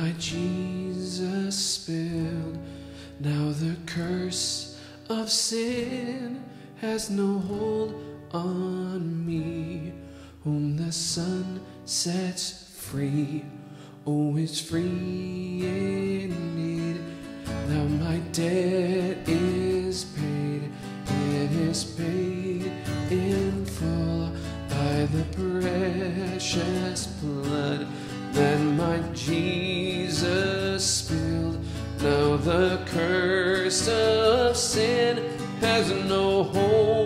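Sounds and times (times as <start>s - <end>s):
acoustic guitar playing: 0.0s - 37.0s
man singing slow song: 0.0s - 37.0s.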